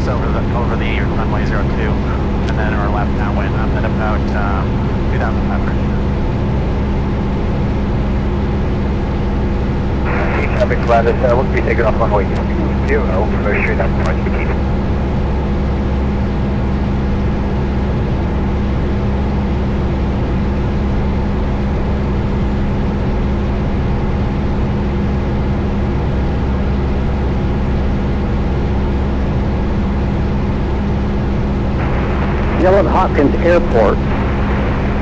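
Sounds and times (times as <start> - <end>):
propeller plane engine droning: 0.0 - 35.0.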